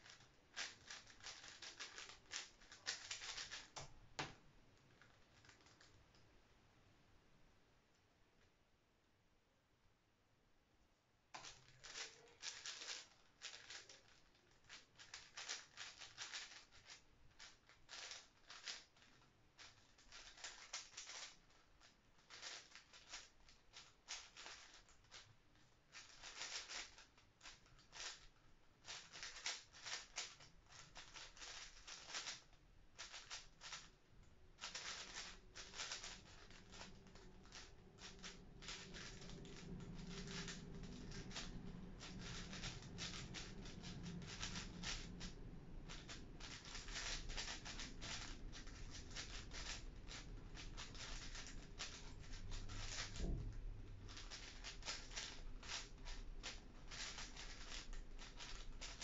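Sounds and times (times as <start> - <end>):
plastic puzzle cube clacking: 0.0 - 4.3, 11.4 - 25.3, 25.9 - 33.9, 34.6 - 53.3, 53.9 - 59.0.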